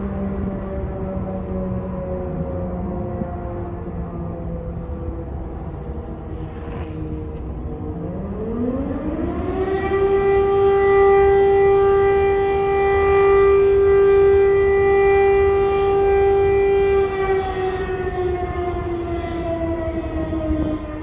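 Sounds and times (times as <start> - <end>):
air raid siren wailing: 0.0 - 21.0.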